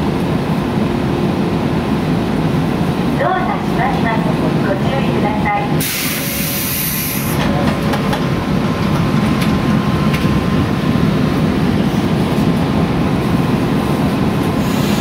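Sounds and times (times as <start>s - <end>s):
train carriage hum and rumble: 0.0s - 15.0s.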